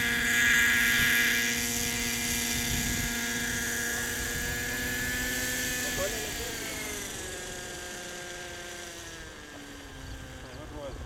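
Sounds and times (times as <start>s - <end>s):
model helicopter hovering: 0.0s - 11.0s.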